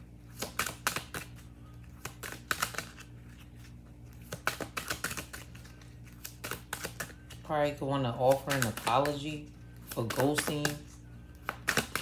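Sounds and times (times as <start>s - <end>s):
cards being shuffled: 0.2s - 12.0s.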